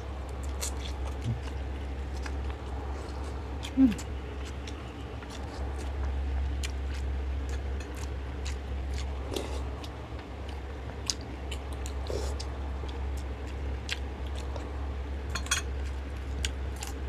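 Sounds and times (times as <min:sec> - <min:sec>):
steady low hum: 0:00.0 - 0:17.0
chewing and lip smacks: 0:00.4 - 0:14.7.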